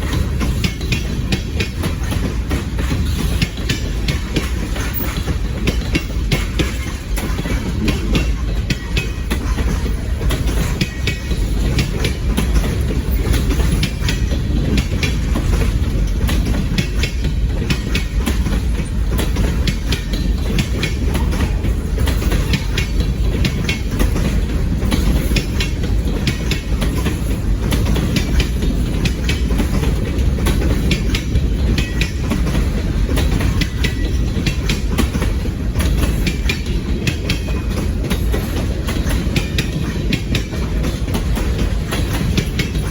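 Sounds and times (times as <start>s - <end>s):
train cars rumbling past: 0.0s - 42.9s
wheels clicking over rail joints: 0.0s - 42.9s.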